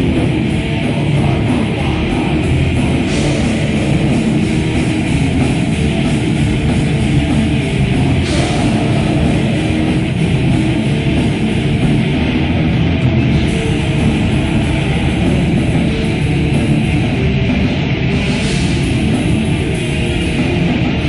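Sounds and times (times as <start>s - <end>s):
heavy metal band playing live: 0.0s - 21.0s.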